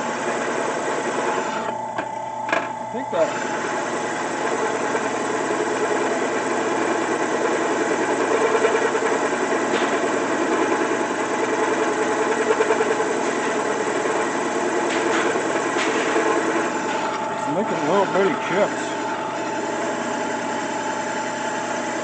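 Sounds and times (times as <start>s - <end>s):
drill press humming: 0.0s - 22.0s.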